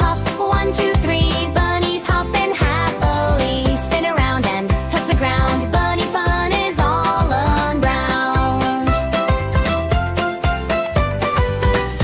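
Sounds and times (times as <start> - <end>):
upbeat children's song: 0.0 - 12.0.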